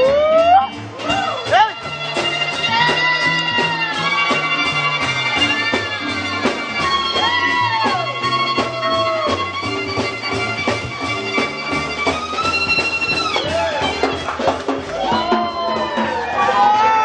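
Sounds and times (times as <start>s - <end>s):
violin solo: 0.0s - 15.8s
swing jazz band playing: 0.0s - 16.9s.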